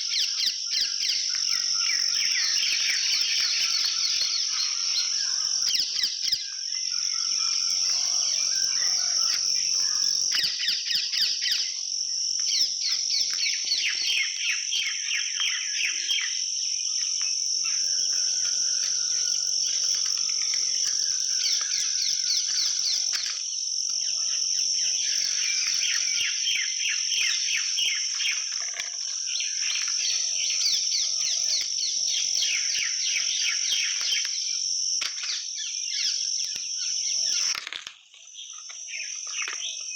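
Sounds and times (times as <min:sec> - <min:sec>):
high-pitched insect drone: 0:00.0 - 0:39.9
small birds chirping: 0:00.0 - 0:39.9.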